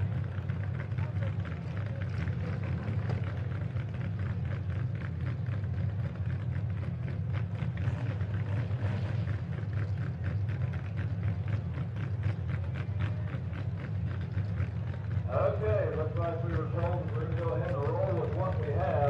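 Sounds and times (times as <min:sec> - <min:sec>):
truck engines rumbling and crackling: 0:00.0 - 0:19.0.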